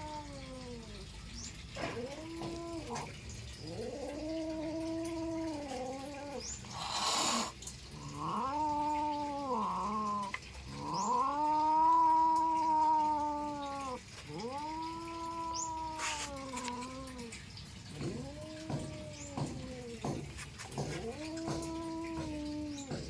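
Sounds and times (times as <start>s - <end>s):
cats yowling: 0.0s - 23.0s
cat hissing: 1.8s - 23.0s.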